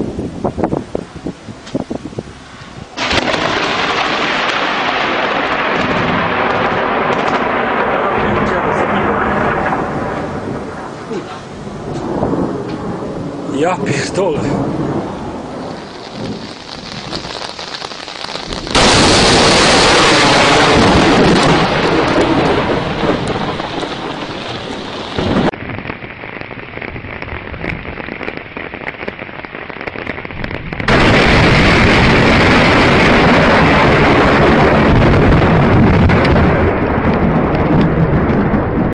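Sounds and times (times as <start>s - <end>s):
steady rain: 0.0s - 38.9s
loud thunderclaps: 2.9s - 38.9s.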